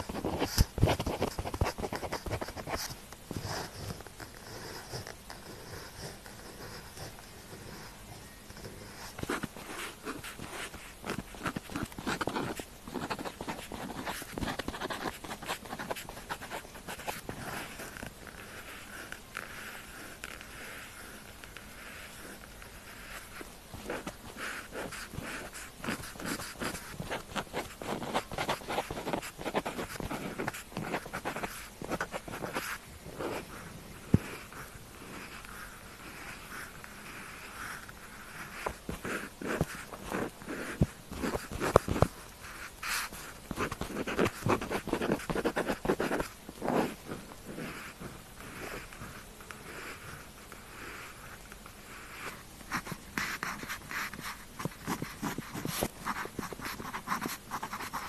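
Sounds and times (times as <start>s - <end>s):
pen scratching on paper: 0.0s - 51.3s, 51.9s - 58.0s.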